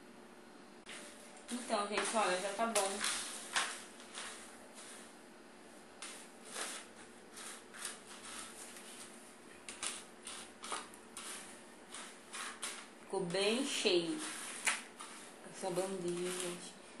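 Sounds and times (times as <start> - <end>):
scoop scraping cat litter: 0.9 - 5.2, 6.0 - 16.8.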